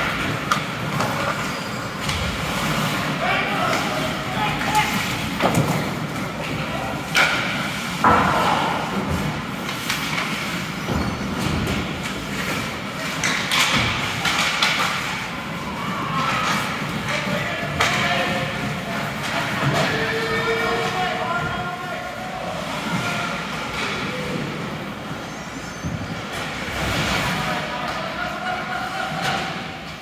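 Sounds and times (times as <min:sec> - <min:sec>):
arena noise: 0:00.0 - 0:30.0
spectators' voices: 0:00.0 - 0:30.0.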